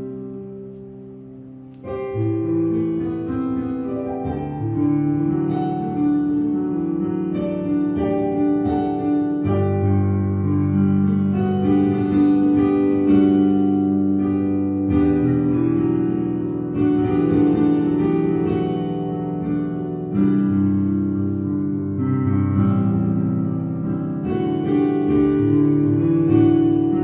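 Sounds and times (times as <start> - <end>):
slow keyboard chords: 0.0 - 27.0.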